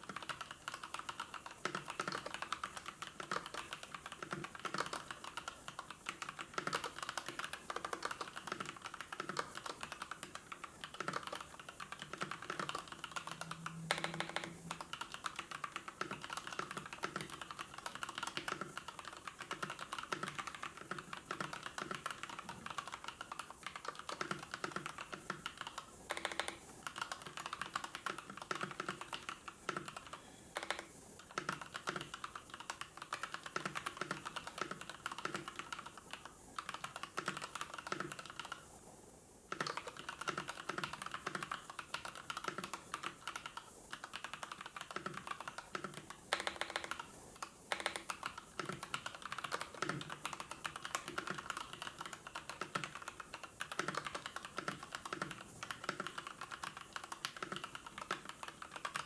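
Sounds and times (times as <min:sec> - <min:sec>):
fast typing on keyboard: 0:00.0 - 0:38.8, 0:39.5 - 0:59.0.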